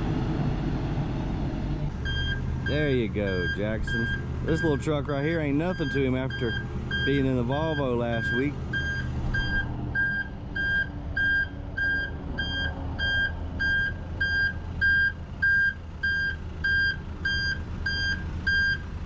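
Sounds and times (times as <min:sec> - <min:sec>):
diesel engines running: 0:00.0 - 0:19.0
reversing alarm beeping: 0:02.0 - 0:04.9, 0:05.7 - 0:18.9.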